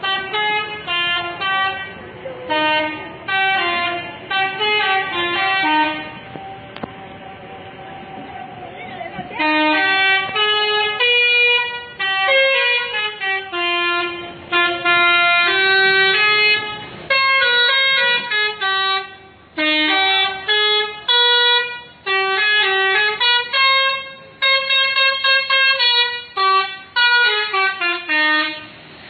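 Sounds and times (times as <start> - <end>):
multi-tone bus air horn tune: 0.0 - 6.9, 9.3 - 29.0.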